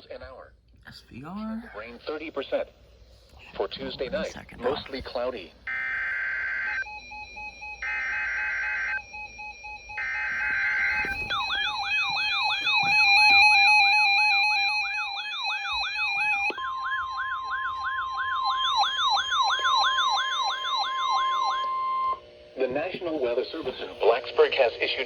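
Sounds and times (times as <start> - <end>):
steady warning alarm tone: 1.1 - 25.0
siren alarm wailing: 3.5 - 24.7.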